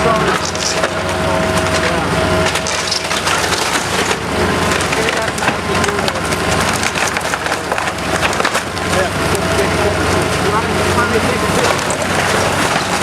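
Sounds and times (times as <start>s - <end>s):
wood cracking and splintering: 0.0s - 13.0s.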